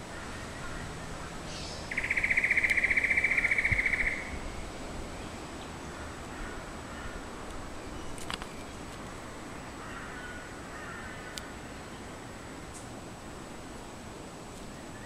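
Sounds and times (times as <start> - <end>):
pulsed buzzing rattle in trees: 0.0 - 15.0.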